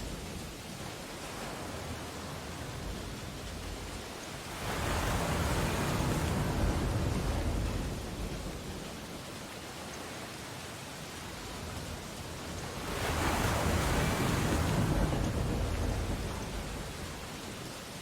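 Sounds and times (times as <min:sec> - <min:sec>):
ocean surf washing on beach: 0:00.0 - 0:18.0.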